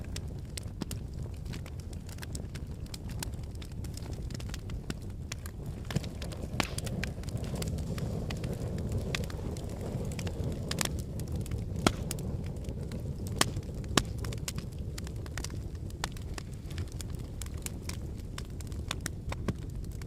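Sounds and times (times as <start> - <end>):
wood fire crackling in fireplace: 0.0 - 20.0.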